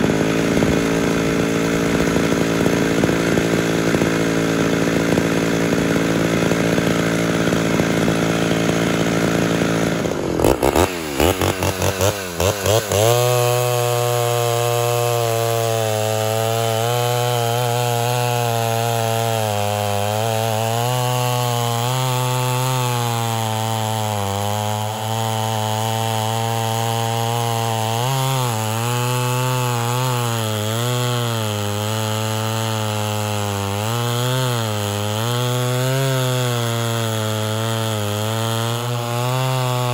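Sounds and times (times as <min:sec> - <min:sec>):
chainsaw revving and cutting log: 0:00.0 - 0:39.9.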